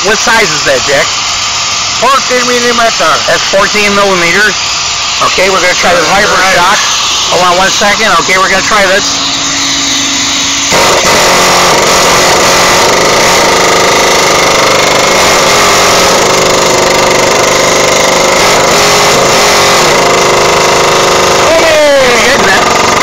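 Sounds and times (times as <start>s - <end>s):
pneumatic air hammer hammering: 0.0s - 23.0s
steady hum: 0.0s - 23.0s.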